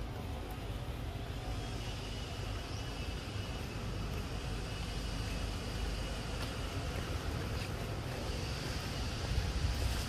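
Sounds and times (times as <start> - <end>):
faint high hiss: 0.0 - 10.0
steady low rumble: 0.0 - 10.0.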